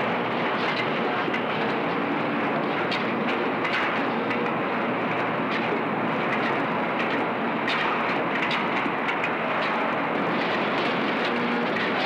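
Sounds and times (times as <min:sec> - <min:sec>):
steady machinery noise: 0:00.0 - 0:12.0.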